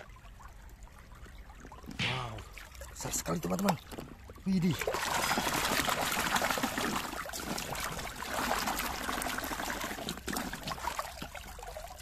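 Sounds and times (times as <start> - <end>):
muddy water splashing: 1.8 - 12.0.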